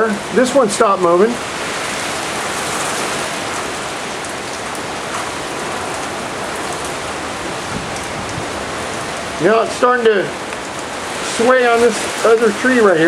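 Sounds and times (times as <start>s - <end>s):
rushing storm hiss: 0.0s - 13.0s.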